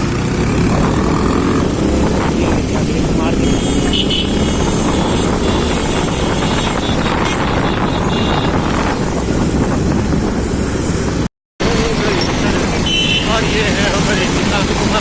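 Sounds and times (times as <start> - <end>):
wind buffeting microphone: 0.0 - 12.8
motorcycle engine and road noise: 0.0 - 15.0.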